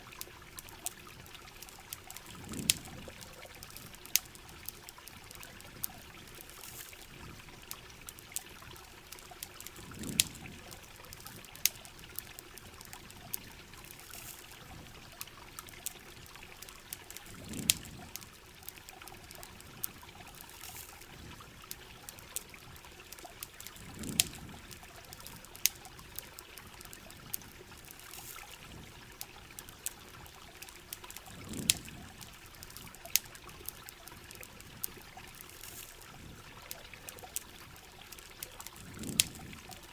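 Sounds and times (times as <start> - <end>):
campfire crackles and pops: 0.0 - 39.9
rain hiss: 0.0 - 39.9
trickling water: 0.0 - 39.9.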